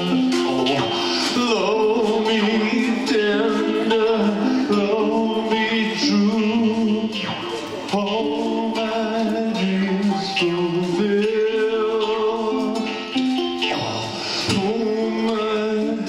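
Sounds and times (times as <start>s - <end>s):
gourd shaker: 0.0s - 16.0s
harmonica melody: 0.0s - 16.0s
strummed small guitar: 0.0s - 16.0s.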